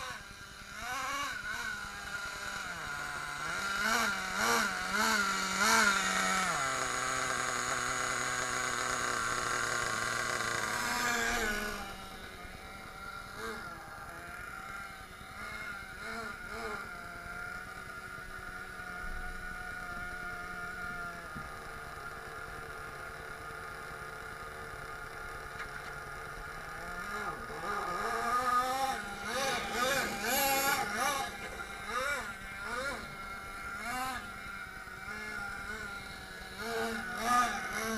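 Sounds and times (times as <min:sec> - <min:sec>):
small model engine revving: 0:00.0 - 0:37.9.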